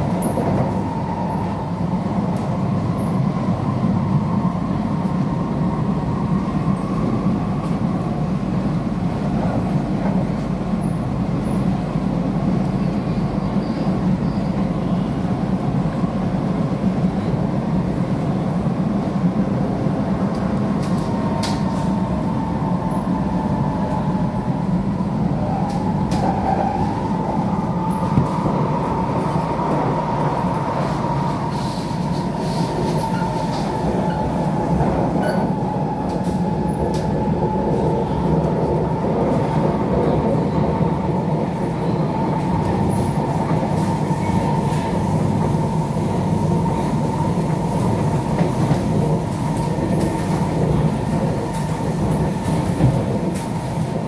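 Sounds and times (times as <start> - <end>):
low rumble of wheels on rail: 0.0 - 54.0.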